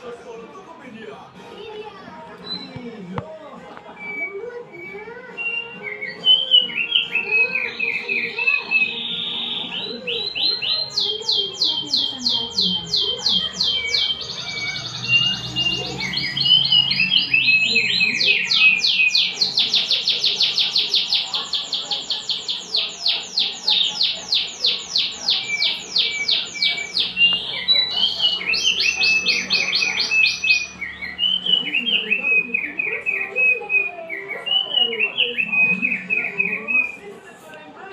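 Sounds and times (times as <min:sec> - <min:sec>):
songbird chirping and trilling: 0:01.4 - 0:37.5.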